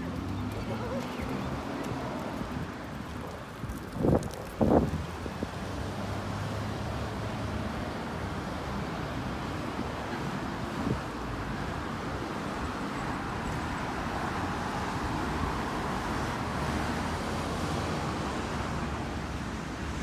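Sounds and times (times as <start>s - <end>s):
cars passing on road: 0.0s - 20.0s.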